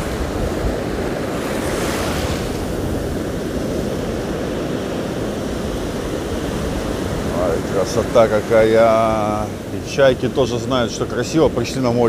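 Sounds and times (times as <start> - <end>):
surf breaking on a beach: 0.0 - 12.0
wind buffeting microphone: 0.0 - 12.0.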